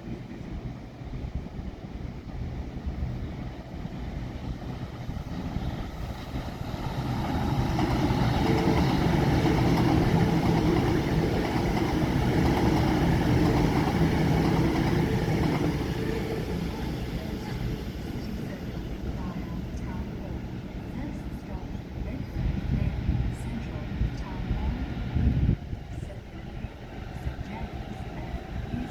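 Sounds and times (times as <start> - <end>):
passing train engine hum: 0.0 - 28.9.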